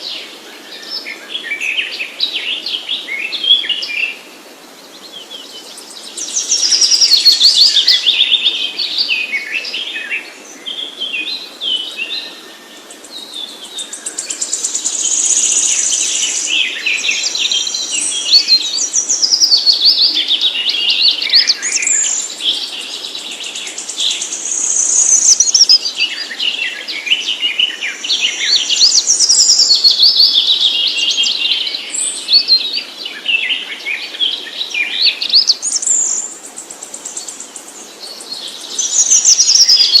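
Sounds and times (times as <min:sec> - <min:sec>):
songbird singing: 0:00.0 - 0:40.0.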